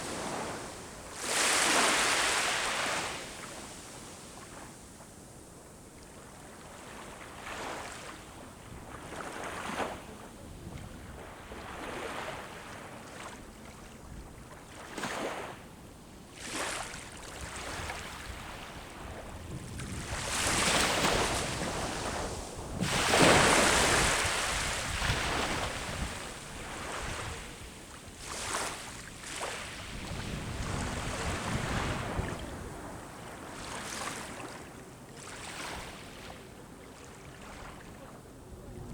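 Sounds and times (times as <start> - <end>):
sea waves breaking on shore: 0.0 - 5.1, 6.3 - 15.7, 16.3 - 38.2.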